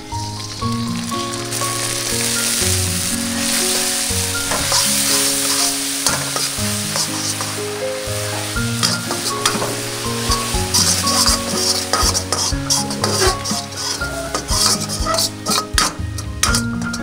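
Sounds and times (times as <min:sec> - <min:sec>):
background music: 0:00.0 - 0:17.0
sizzling in hot oil: 0:00.0 - 0:17.0
spatula scraping wok: 0:00.3 - 0:17.0.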